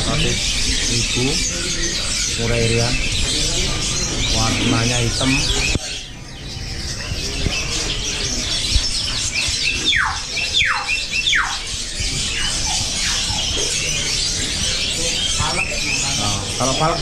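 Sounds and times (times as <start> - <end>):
caged birds chirping: 0.0 - 17.0.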